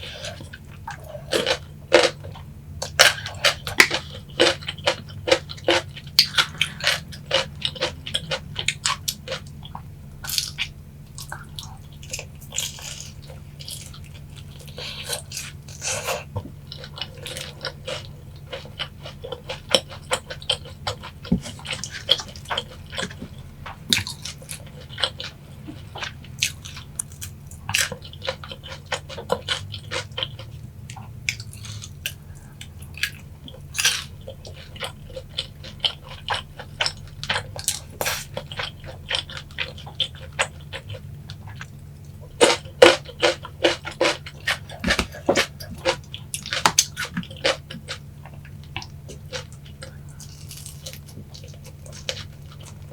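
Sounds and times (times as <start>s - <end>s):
person chewing fried chicken: 0.0s - 52.9s.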